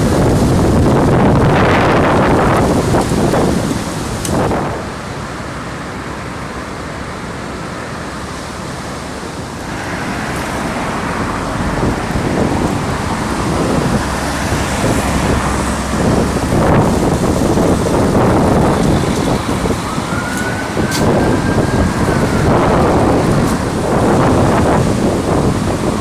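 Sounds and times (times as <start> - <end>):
road traffic noise: 0.0 - 26.0
wind gusting over microphone: 0.0 - 26.0.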